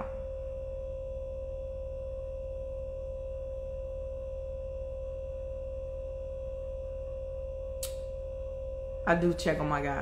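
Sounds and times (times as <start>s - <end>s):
low buzz: 0.0s - 10.0s
steady pure tone: 0.0s - 10.0s.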